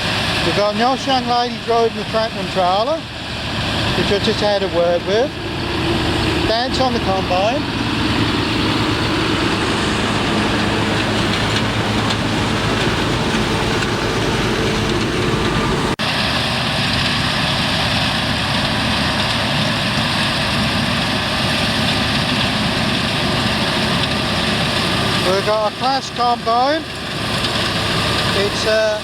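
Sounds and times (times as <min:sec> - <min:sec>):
heavy diesel machinery running: 0:00.0 - 0:29.0.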